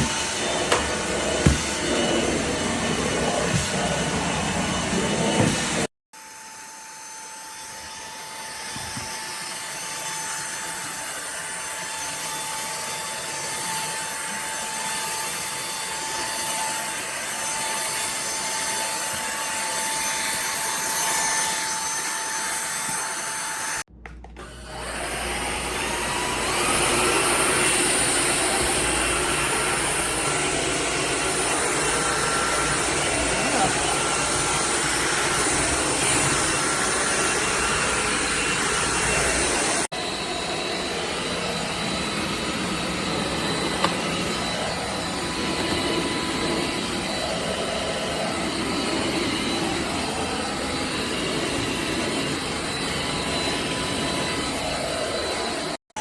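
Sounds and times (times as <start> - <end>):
vacuum motor whining: 0.0 - 56.0.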